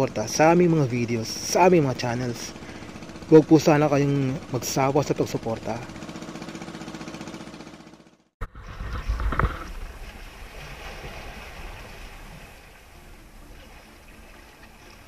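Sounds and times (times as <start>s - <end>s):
sea wash: 0.0s - 7.4s, 8.4s - 15.0s.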